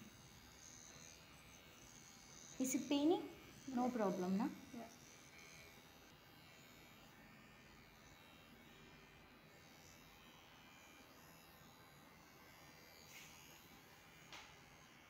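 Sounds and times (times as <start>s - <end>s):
faint electric buzz: 0.0s - 15.0s.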